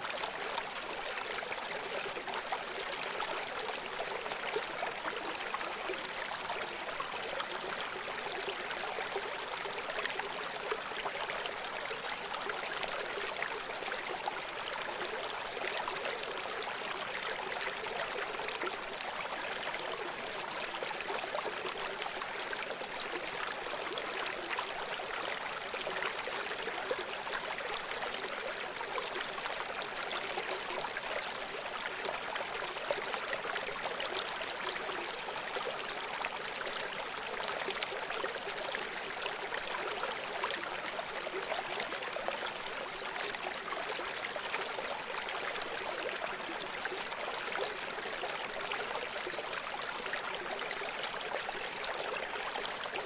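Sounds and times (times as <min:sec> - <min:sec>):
stream water over rocks: 0:00.0 - 0:53.0.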